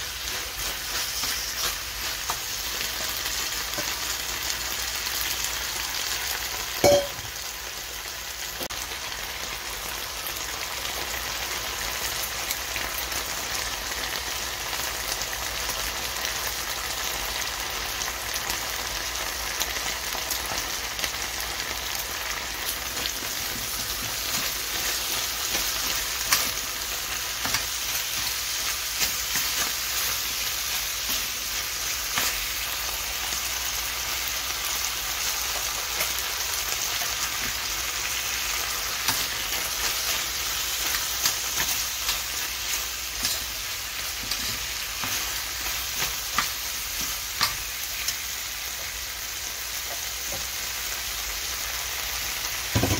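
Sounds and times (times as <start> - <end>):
food sizzling in a frying pan: 0.0 - 52.9.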